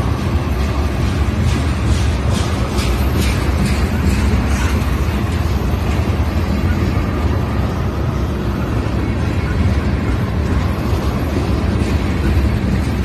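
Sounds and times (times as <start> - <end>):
freight train wheels rolling on rail: 0.0 - 13.0.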